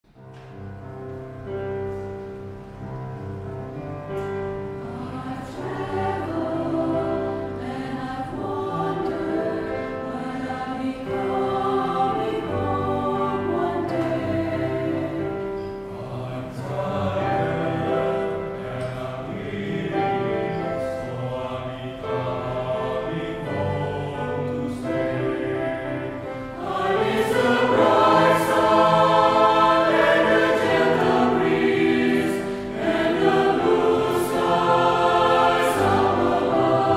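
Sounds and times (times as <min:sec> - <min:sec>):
piano accompaniment: 0:00.0 - 0:36.9
mixed choir singing: 0:04.2 - 0:36.9.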